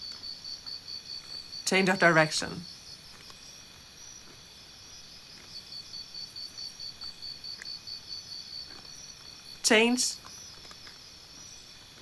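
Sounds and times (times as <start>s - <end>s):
crickets trilling: 0.0s - 12.0s
pulsing cricket chirp: 0.0s - 12.0s.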